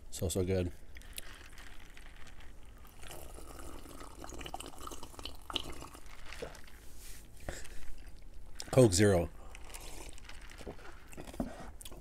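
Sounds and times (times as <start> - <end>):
person sipping and swallowing: 0.9 - 8.7, 9.3 - 12.0.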